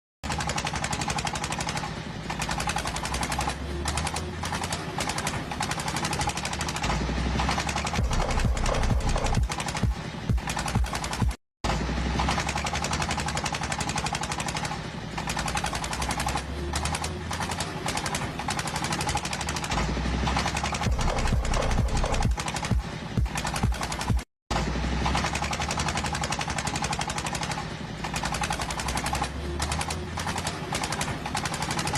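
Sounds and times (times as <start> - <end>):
engine with rattling exhaust pulses: 0.2 - 31.9.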